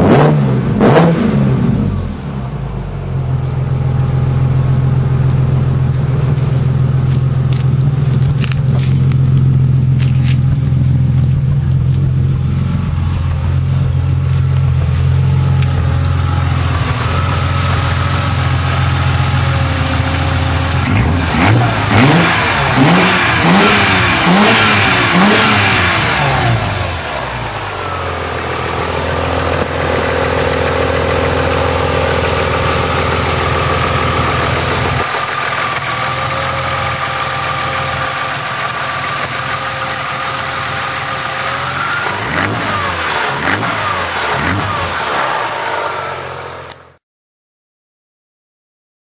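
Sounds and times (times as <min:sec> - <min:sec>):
engine throttle blips: 0:00.0 - 0:47.0
car engine idling: 0:01.5 - 0:47.0.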